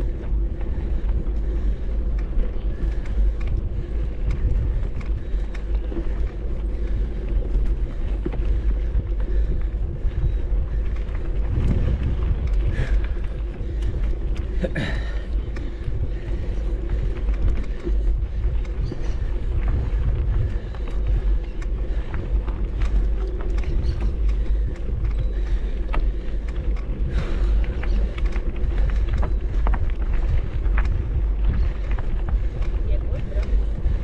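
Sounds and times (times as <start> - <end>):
faint crackles: 0.0 - 34.0.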